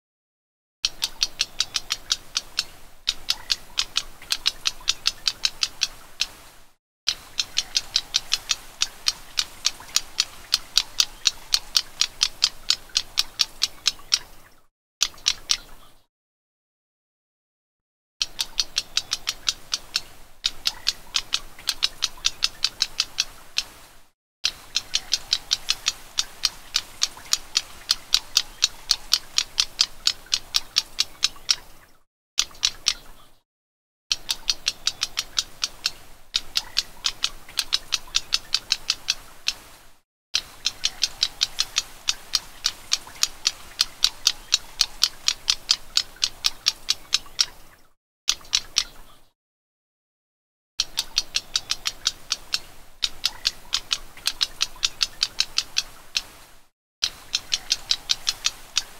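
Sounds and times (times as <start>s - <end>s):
bird calling with dry ticking notes: 0.8s - 16.1s, 18.2s - 33.4s, 34.1s - 49.4s, 50.8s - 58.9s.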